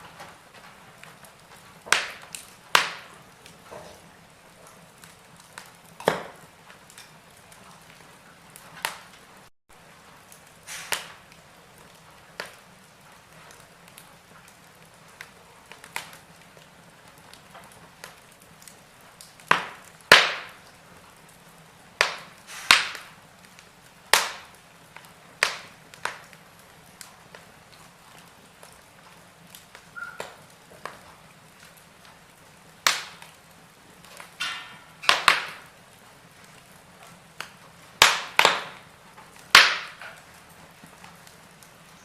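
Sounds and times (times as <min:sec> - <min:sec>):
faint steady hiss: 0:00.0 - 0:42.0
wood fire crackling and popping: 0:00.0 - 0:42.0.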